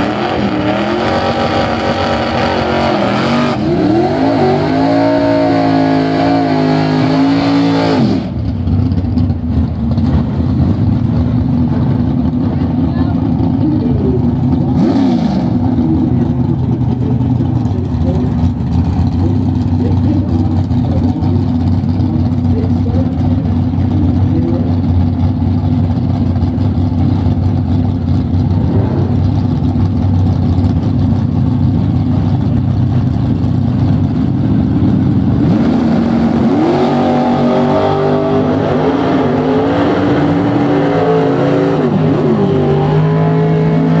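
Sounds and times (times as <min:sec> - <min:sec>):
drag car engine revving: 0:00.0 - 0:44.0.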